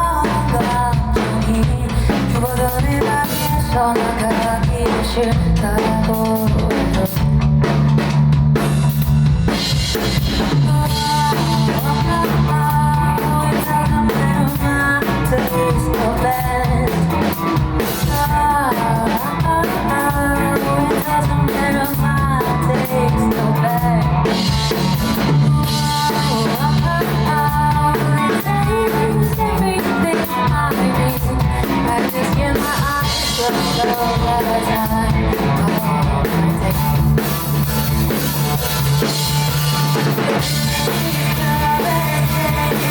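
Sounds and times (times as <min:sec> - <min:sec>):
pop rock song with singing: 0:00.0 - 0:42.9.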